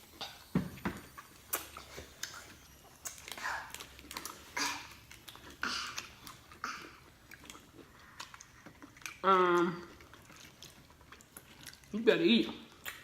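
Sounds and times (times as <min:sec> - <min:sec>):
person chewing food: 0:01.1 - 0:13.0.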